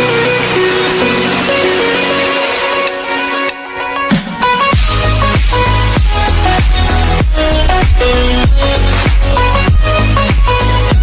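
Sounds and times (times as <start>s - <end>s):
bass-heavy electronic music: 0.0s - 11.0s
guitar-backed music: 0.0s - 11.0s.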